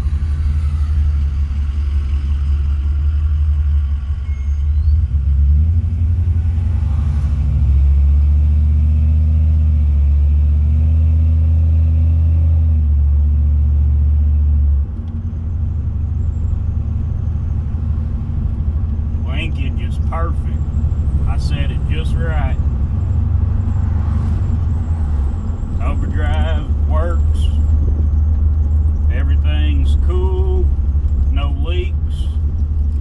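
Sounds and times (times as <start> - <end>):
engine and road rumble: 0.0 - 33.0.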